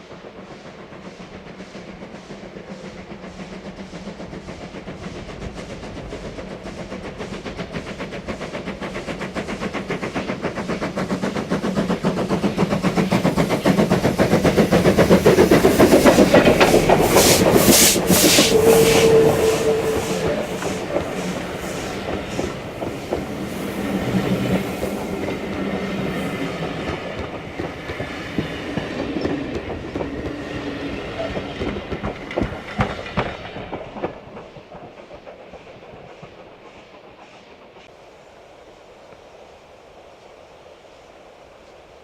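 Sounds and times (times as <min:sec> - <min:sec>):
steam hissing strokes: 0:00.0 - 0:42.0
steam locomotive exhaust beats: 0:00.0 - 0:42.0.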